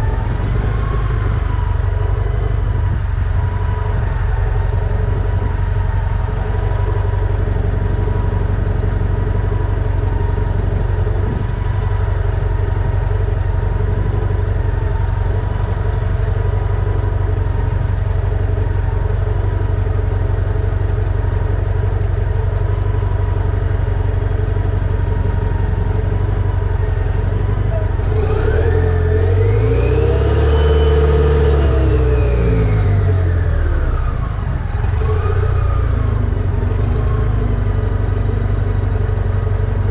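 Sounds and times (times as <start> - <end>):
bus engine idling and revving: 0.0 - 39.9.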